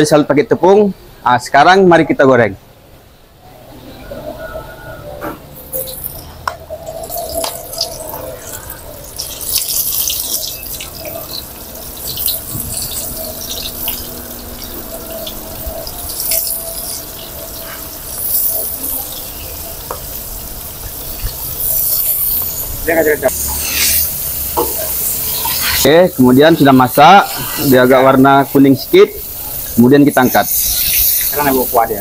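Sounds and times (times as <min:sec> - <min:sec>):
battered food deep-frying in oil: 0:05.6 - 0:32.0.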